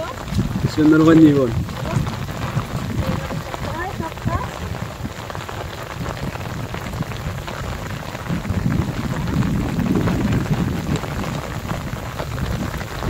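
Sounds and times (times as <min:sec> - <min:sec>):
heavy rain pouring: 0:00.0 - 0:13.0
low rumble: 0:00.0 - 0:13.0.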